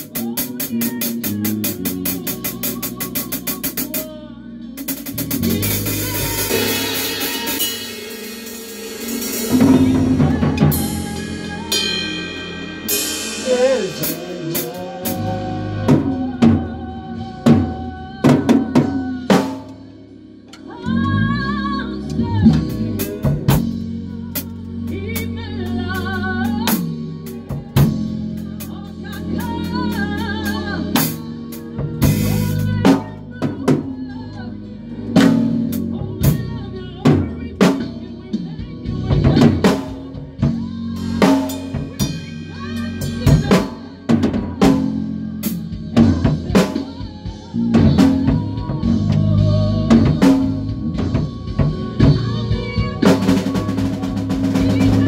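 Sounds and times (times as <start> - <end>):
drum kit playing fills: 0.0 - 55.0
sustained low bass notes: 0.0 - 55.0.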